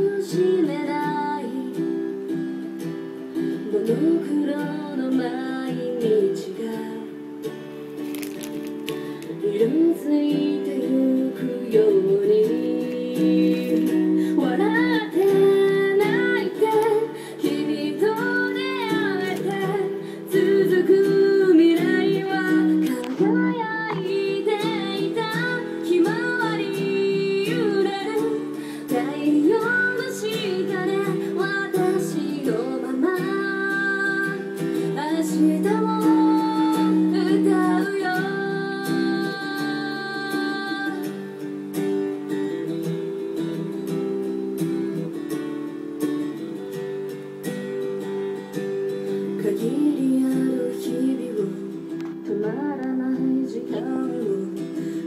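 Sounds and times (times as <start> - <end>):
woman singing: 0.0 - 7.7, 9.0 - 46.9, 48.0 - 55.0
acoustic guitar: 0.0 - 55.0.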